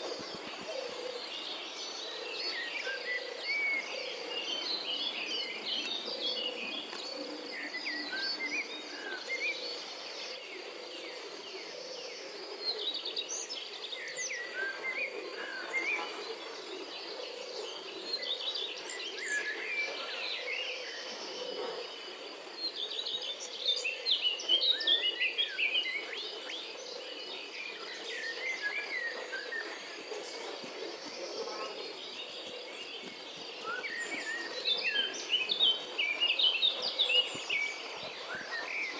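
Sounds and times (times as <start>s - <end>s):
birds chirping and calling: 0.0s - 38.9s.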